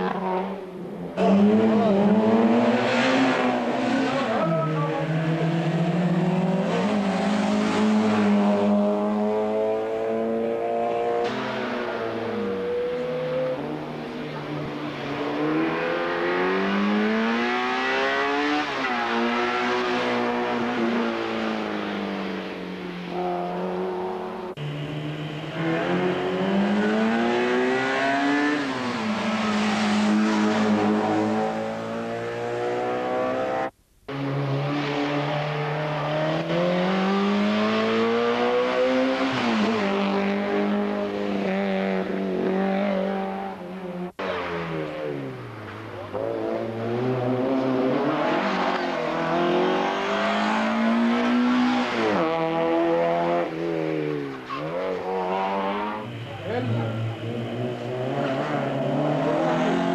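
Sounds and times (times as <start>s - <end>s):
racing cars accelerating hard: 0.0s - 59.9s.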